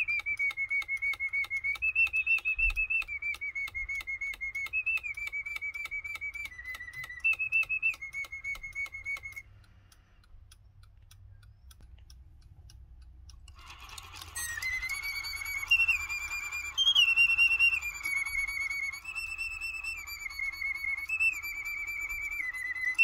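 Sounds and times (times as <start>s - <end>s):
bellows whistle tune: 0.0s - 9.5s, 13.8s - 23.0s
clockwork clicking: 0.0s - 23.0s.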